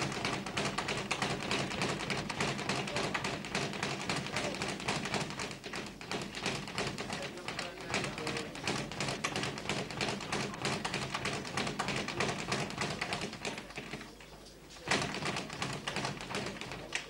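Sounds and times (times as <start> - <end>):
quick sharp glove taps and slaps: 0.0 - 14.1, 14.8 - 17.0.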